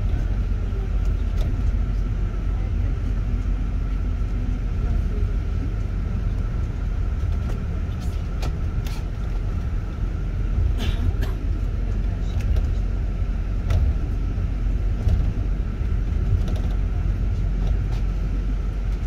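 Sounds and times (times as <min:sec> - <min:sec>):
bus low rumble: 0:00.0 - 0:19.0.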